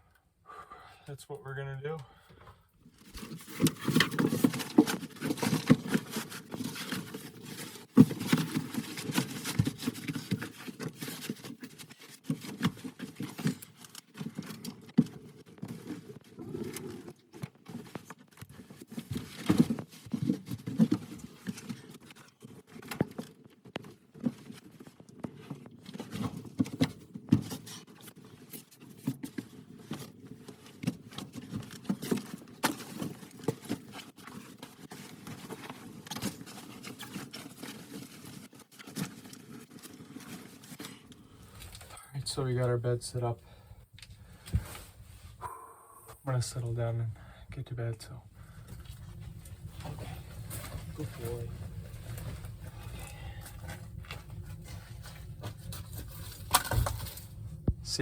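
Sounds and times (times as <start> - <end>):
rustling and tapping of gear: 1.4 - 46.9, 47.6 - 58.0.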